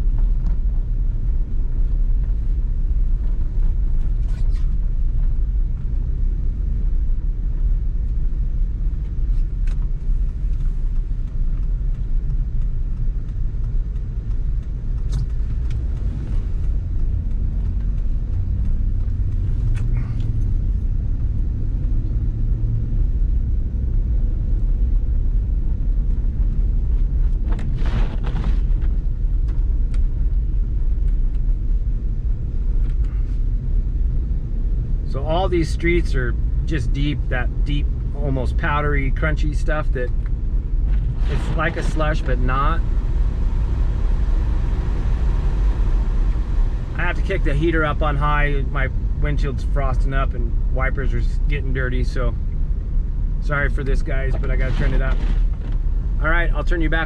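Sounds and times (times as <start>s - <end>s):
vehicle driving on snow: 0.0s - 57.0s.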